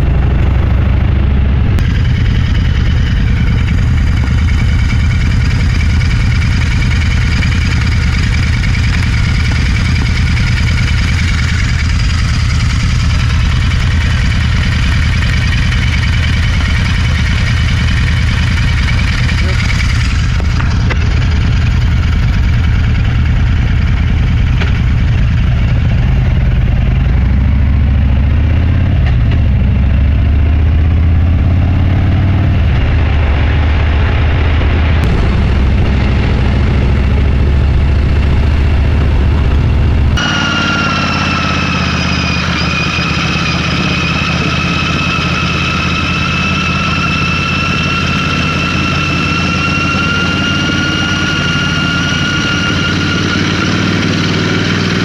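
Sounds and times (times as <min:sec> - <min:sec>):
motorcycle engine running: 0:00.0 - 0:55.0
steady high whine: 0:00.0 - 0:55.0.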